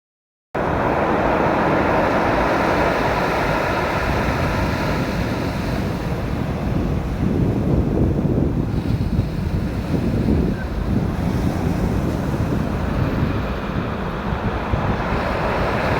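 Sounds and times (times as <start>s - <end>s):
surf washing on shore: 0.6s - 15.9s
wind rumbling on microphone: 0.6s - 15.9s.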